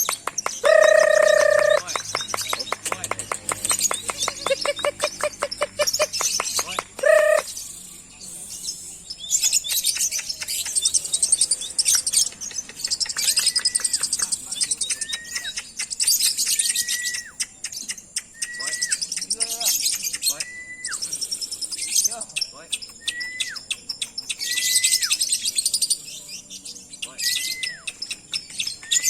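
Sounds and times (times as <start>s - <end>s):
lovebirds chattering trills: 0.0s - 29.0s.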